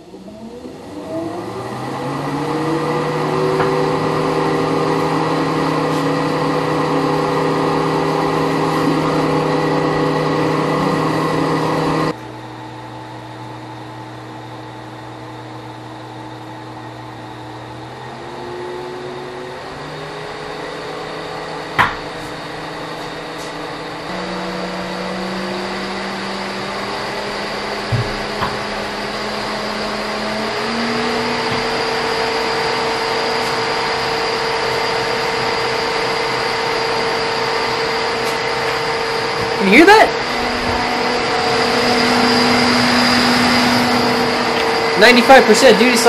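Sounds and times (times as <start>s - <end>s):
electric radiator fans whining: 0.0s - 46.0s.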